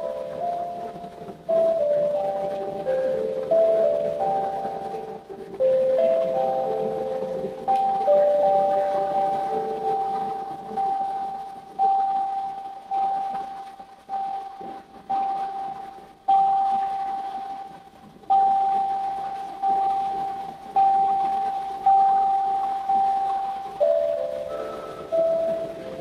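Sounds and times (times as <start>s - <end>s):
steel tongue drum notes: 0.0s - 26.0s.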